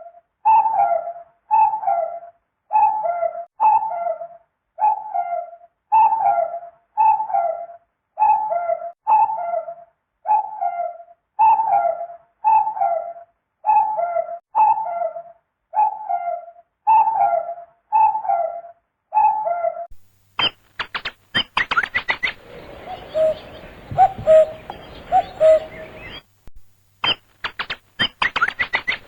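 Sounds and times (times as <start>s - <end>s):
cuckoo calling: 0.5s - 26.3s, 27.0s - 29.0s.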